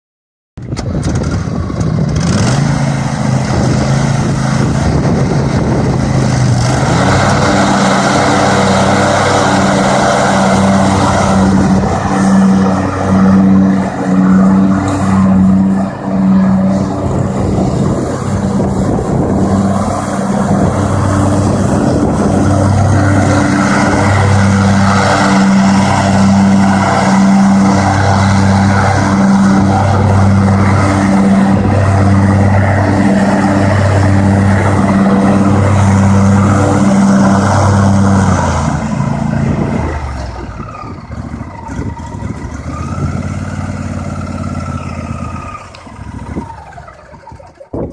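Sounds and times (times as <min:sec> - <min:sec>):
lawn mower engine running: 0:00.6 - 0:47.9.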